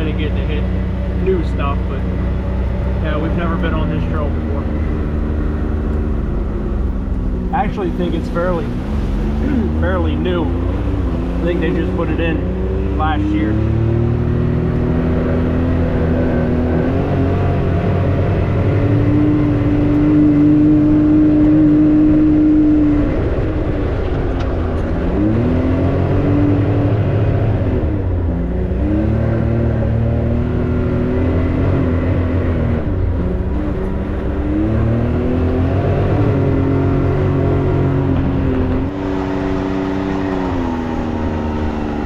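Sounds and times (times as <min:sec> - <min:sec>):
engine running under load: 0:00.0 - 0:42.0.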